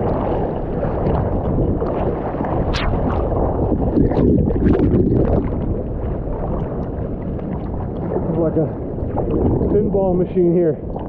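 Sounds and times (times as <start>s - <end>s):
water splash: 0.0s - 10.0s
surf water churning: 0.0s - 11.0s.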